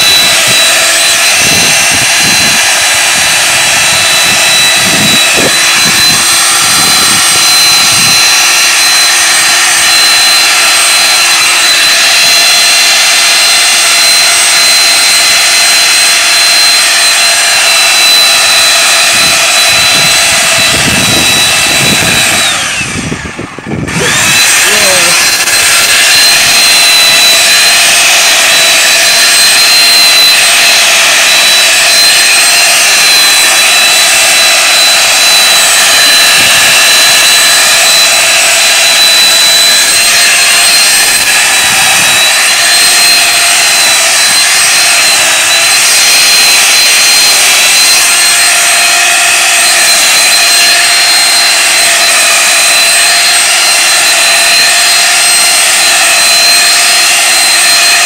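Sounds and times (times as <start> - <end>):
chainsaw scraping ice: 0.0 - 58.0
electric chainsaw whining: 0.0 - 58.0.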